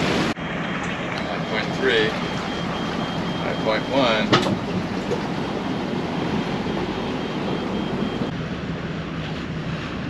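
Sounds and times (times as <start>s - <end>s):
boat engine droning: 0.0s - 10.0s
wind: 0.0s - 10.0s.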